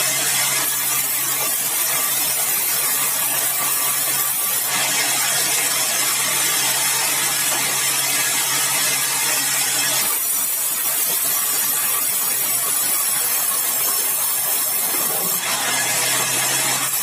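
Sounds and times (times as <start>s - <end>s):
saw cutting log: 0.0s - 17.0s.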